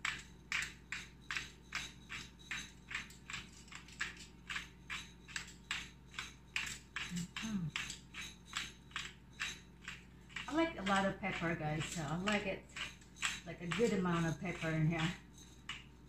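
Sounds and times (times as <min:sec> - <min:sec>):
pepper grinder grinding peppercorns: 0:00.0 - 0:16.0.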